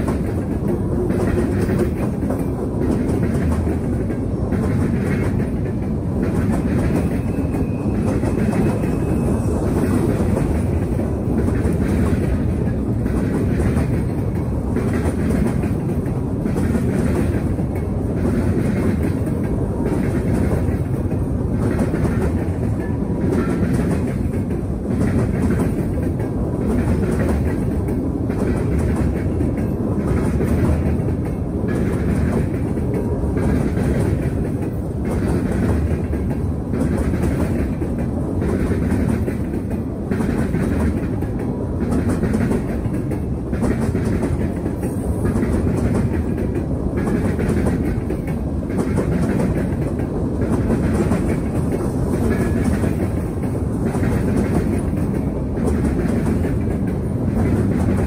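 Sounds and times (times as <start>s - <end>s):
train wheels rumbling on rail: 0.0s - 58.0s
wheels clacking over rail joints: 0.0s - 58.0s.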